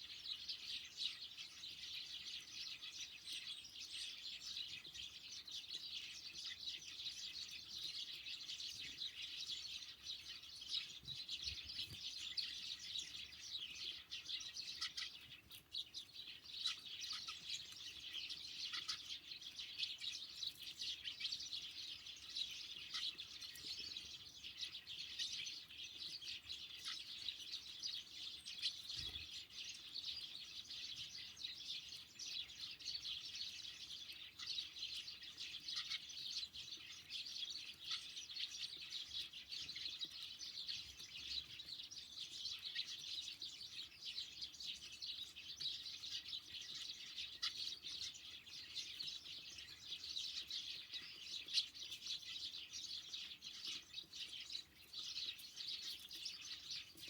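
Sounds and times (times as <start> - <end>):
songbirds chirping and twittering: 0.0 - 57.0.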